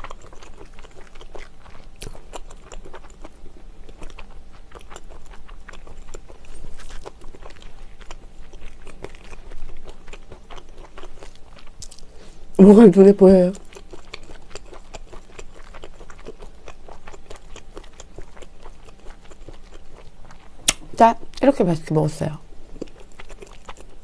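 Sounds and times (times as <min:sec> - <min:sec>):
chewing with wet mouth clicks: 0:00.0 - 0:12.2, 0:13.5 - 0:21.4, 0:22.7 - 0:24.0.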